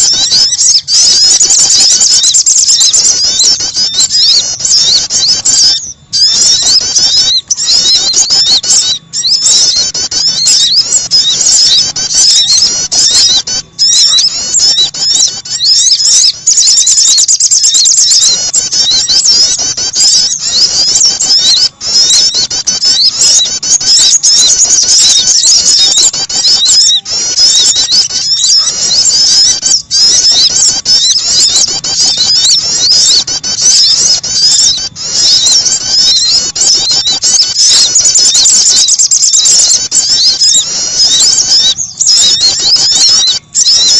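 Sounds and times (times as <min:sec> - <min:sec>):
small birds chirping and trilling: 0:00.0 - 0:43.9.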